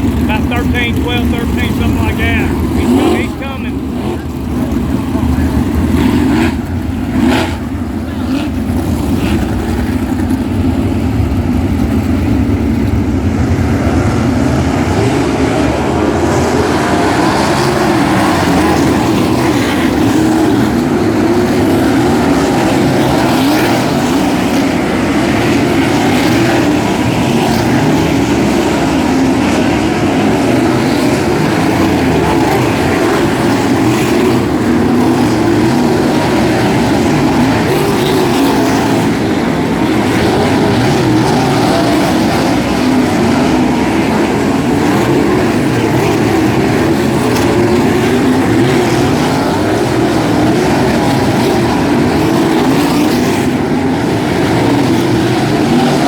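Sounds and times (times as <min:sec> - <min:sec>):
race car engines droning: 0:00.0 - 0:56.0.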